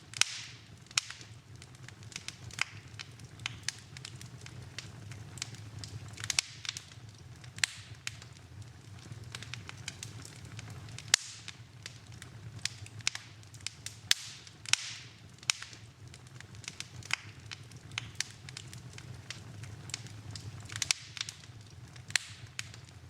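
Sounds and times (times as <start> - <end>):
low steady rumble: 0.0 - 23.0
wood fire crackling and popping: 0.0 - 23.0.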